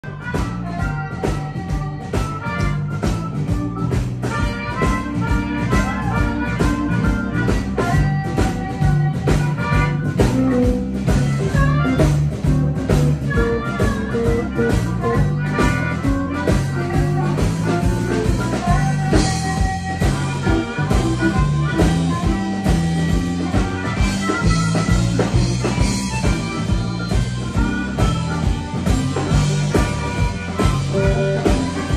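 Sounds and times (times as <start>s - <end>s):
bass guitar: 0.0s - 31.9s
drums: 0.0s - 31.9s
electric guitar: 0.0s - 31.9s
harmonica: 0.0s - 31.9s
keyboard: 0.0s - 31.9s.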